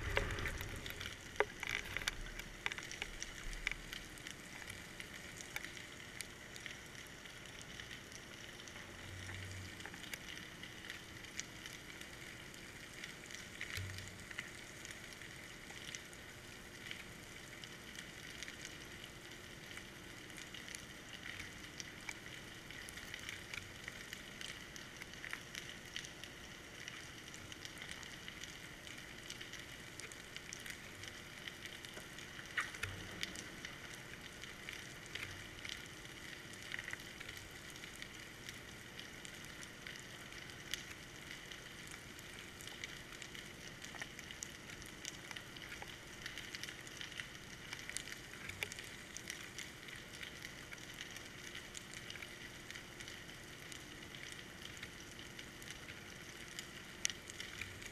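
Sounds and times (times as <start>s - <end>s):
underwater crackle of tiny clicks: 0.0s - 57.9s.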